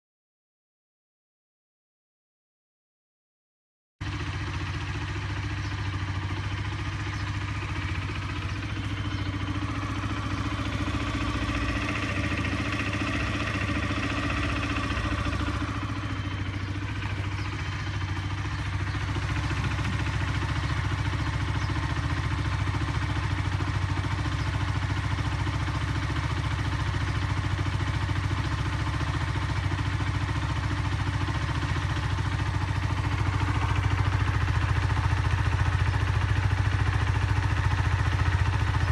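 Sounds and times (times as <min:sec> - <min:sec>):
motorcycle engine running: 0:04.0 - 0:38.9.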